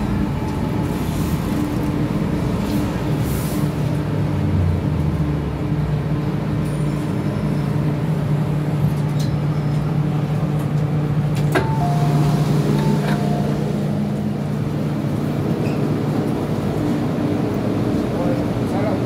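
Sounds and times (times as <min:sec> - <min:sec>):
electric train hum: 0:00.0 - 0:19.0.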